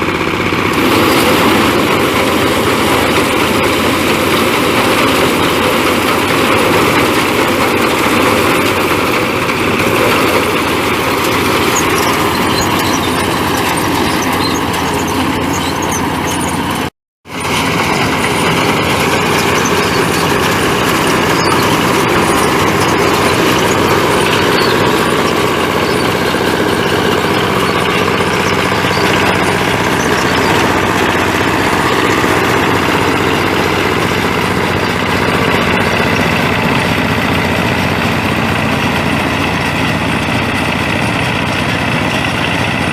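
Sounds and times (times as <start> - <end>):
harvester engine running: 0.0 - 42.9.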